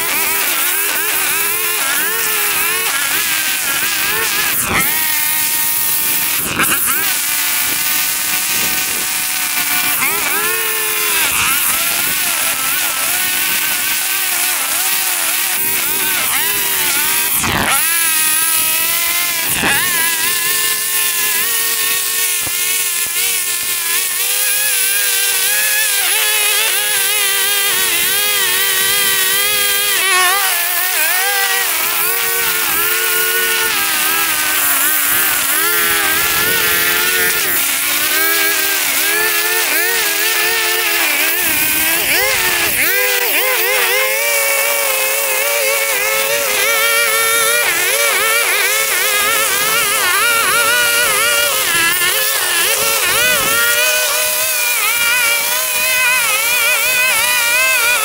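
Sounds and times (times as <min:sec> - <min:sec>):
lawn mower engine cutting grass: 0:00.0 - 0:58.0.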